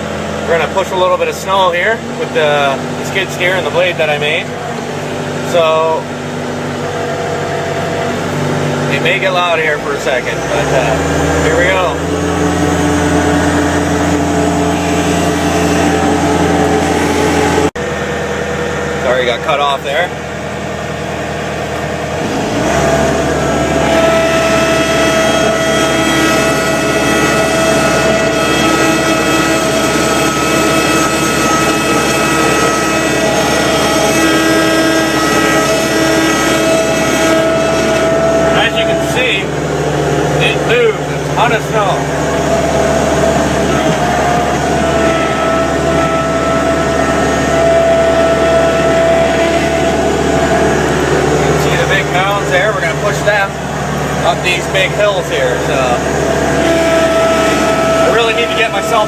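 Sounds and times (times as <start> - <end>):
engine whine: 0.0 - 59.0
skid steer engine revving: 0.0 - 59.0.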